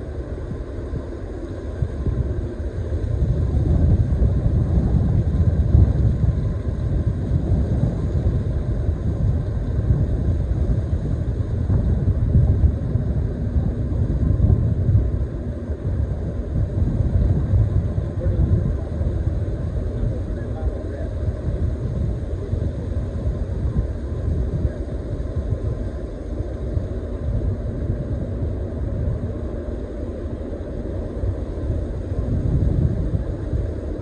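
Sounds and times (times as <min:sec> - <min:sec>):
ship engine rumble: 0:00.0 - 0:34.0
wind on microphone: 0:00.0 - 0:34.0.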